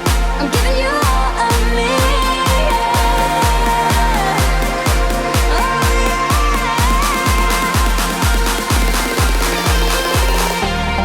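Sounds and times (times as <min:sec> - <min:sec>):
kick drum beat: 0:00.0 - 0:10.6
gliding synth melody: 0:00.0 - 0:11.0.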